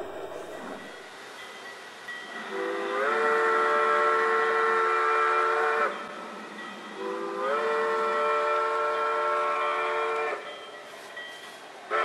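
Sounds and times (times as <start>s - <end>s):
steam train chime whistle: 0.0s - 12.0s.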